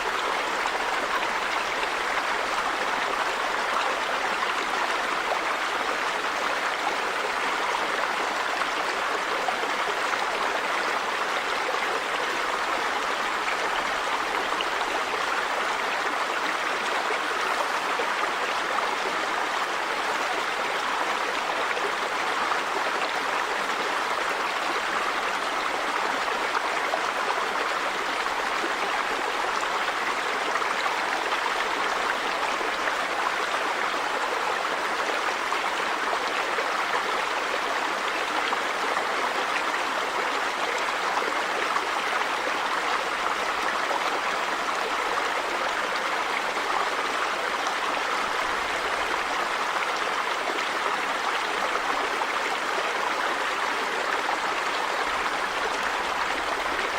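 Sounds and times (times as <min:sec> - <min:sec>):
river water running over rocks: 0:00.0 - 0:56.9.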